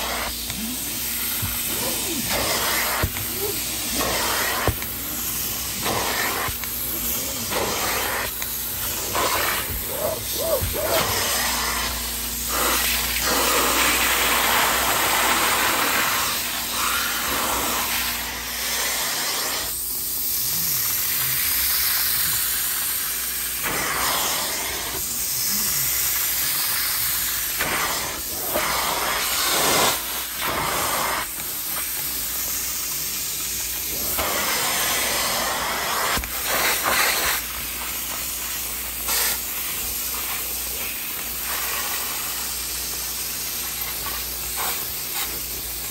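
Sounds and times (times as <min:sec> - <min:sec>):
suction hissing on fabric: 0:00.0 - 0:45.9.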